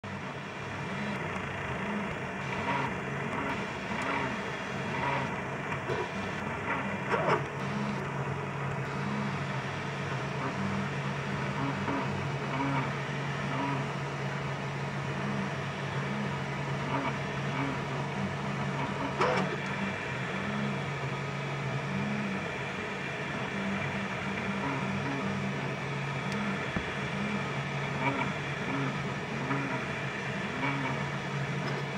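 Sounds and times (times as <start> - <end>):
printer whirring: 0.0 - 31.9
stepper motors humming: 0.0 - 31.9.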